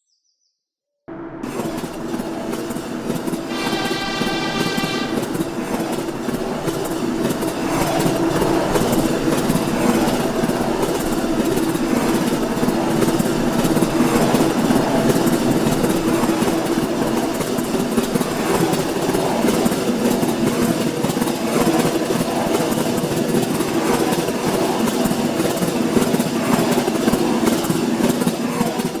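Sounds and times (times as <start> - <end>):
diesel locomotive engine running: 1.1 - 29.0.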